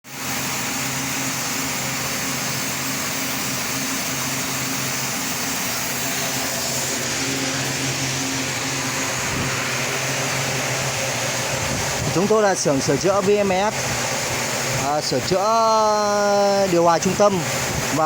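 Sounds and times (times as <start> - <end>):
machinery humming: 0.1 - 18.0.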